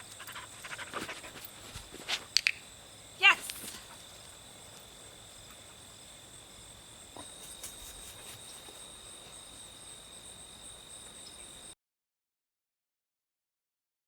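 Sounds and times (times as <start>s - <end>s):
insects chirring: 0.0s - 11.8s.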